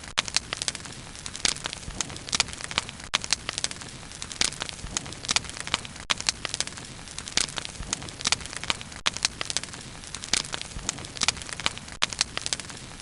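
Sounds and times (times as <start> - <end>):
wood bonfire crackling: 0.0 - 13.0.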